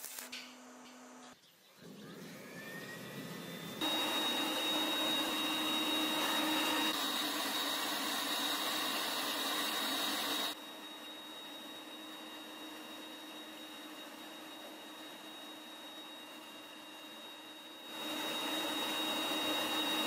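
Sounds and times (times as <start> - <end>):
high steady whistle: 3.8 - 20.0.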